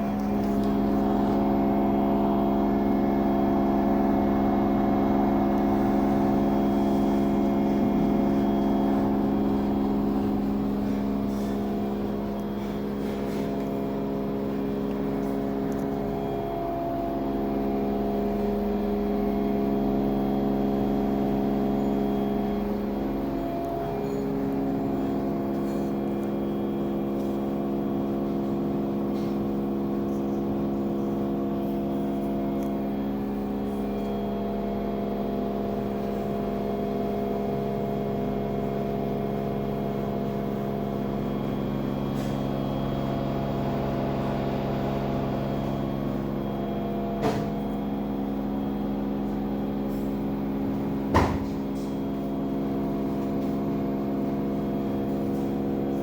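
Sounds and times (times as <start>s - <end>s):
washing machine motor droning: 0.0s - 56.0s.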